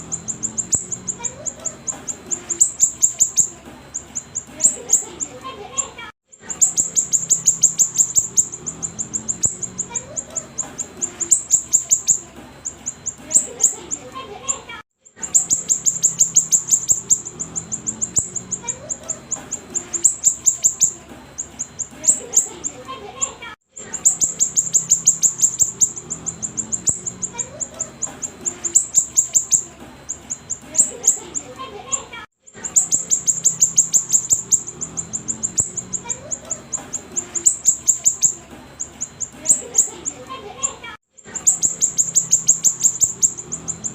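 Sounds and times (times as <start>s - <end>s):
songbird chirping rapidly: 0.0s - 43.9s.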